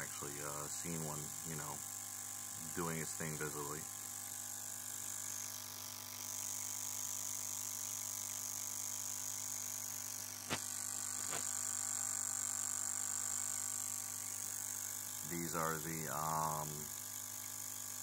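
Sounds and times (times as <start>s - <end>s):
electric fuel pump humming: 0.0s - 18.0s
fuel injector pulsing: 0.0s - 18.0s.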